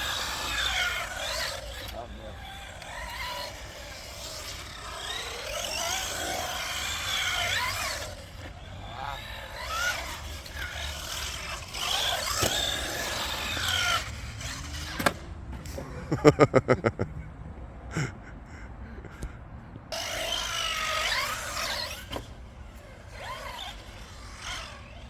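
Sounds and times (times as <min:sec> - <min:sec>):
electric motor whining: 0:00.0 - 0:15.3, 0:19.9 - 0:25.0.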